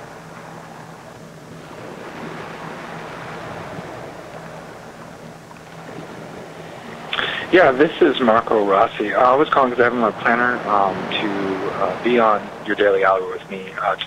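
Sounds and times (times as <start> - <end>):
faint low hum: 0.0 - 14.0
steady rushing noise: 0.0 - 14.0.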